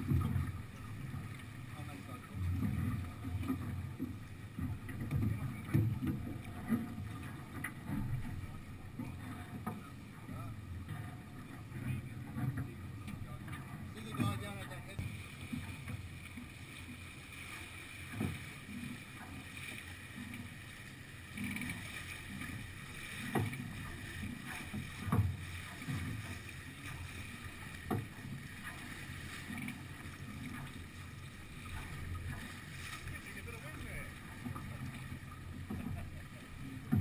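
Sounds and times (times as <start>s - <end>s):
water rushing along hull: 0.0s - 37.0s.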